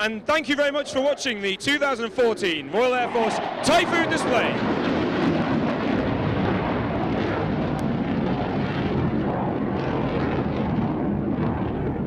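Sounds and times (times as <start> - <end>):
jet engines in afterburner: 0.0 - 12.0.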